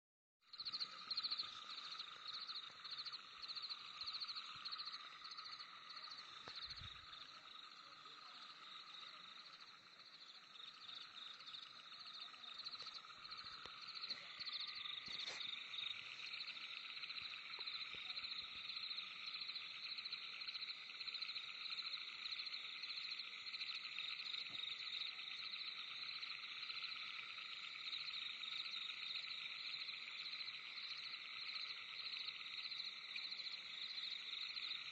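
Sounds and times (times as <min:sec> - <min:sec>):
frogs calling: 0:00.5 - 0:34.9
insects calling: 0:00.5 - 0:34.9.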